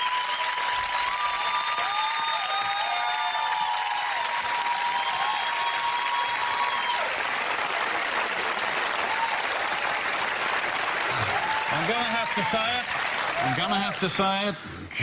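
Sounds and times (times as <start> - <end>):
crowd cheering: 0.0 - 14.6
audience applauding: 0.0 - 14.7.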